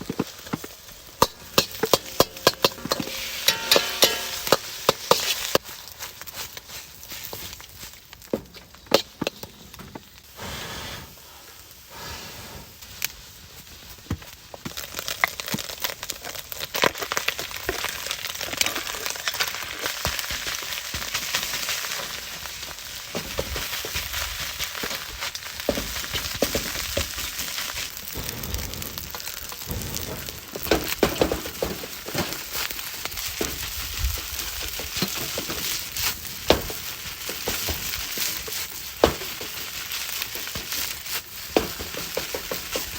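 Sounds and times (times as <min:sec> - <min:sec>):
rice sizzling in a pan: 0:00.0 - 0:42.9.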